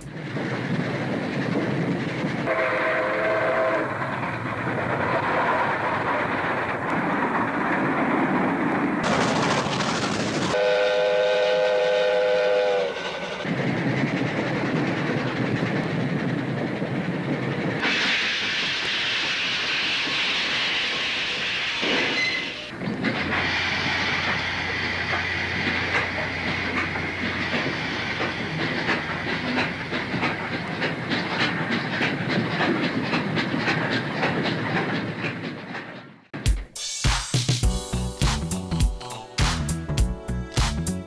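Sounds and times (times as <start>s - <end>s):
steam locomotive running: 0.0s - 37.0s, 37.6s - 41.0s.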